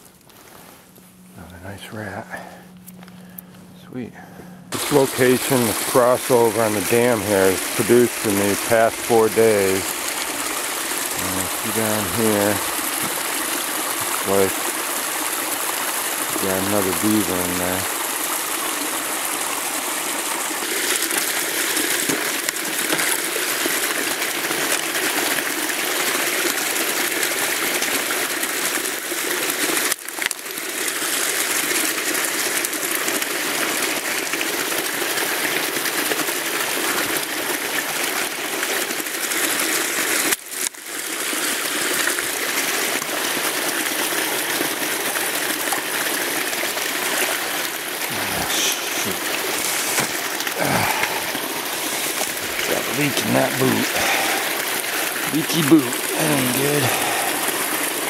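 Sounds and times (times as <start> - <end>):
water rushing: 4.7 - 58.0.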